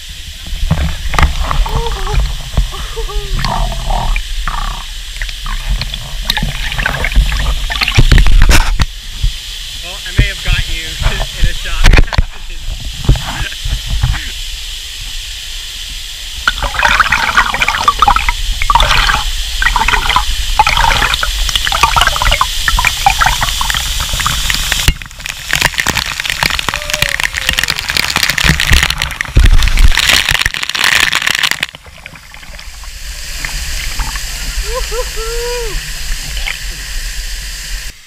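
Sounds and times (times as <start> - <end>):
water splashing: 0.0 - 9.4, 16.4 - 37.8
waterfall pouring into pool: 0.0 - 38.0.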